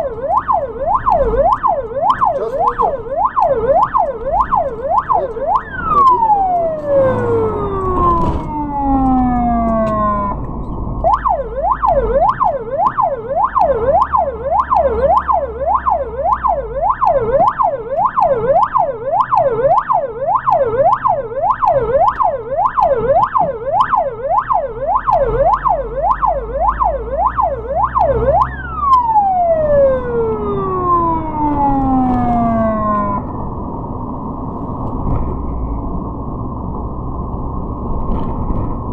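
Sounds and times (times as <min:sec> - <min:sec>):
ambulance siren yelp: 0:00.0 - 0:33.4
low engine rumble: 0:00.0 - 0:38.9.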